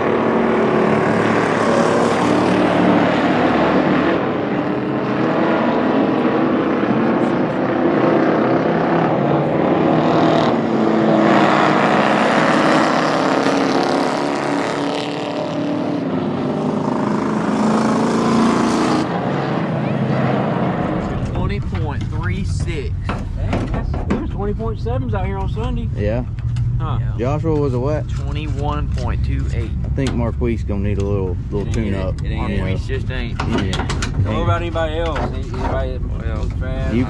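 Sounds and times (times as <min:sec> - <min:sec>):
race car engines droning: 0:00.0 - 0:37.0.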